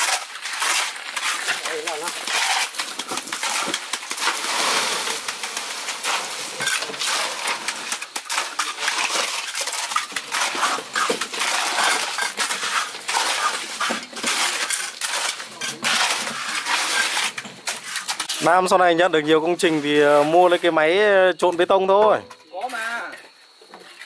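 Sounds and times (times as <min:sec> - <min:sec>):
shovels scraping wet concrete: 0:00.0 - 0:24.0.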